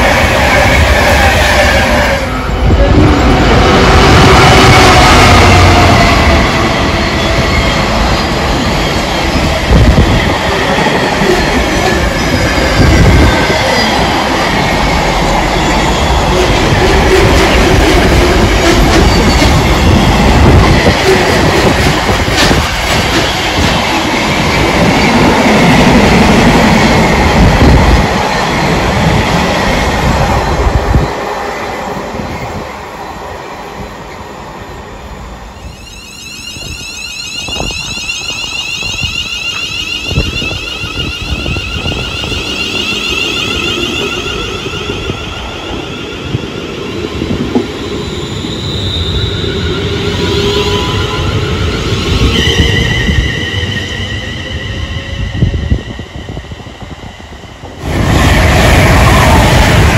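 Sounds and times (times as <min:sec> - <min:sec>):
train running past on rails: 0:00.0 - 0:59.9.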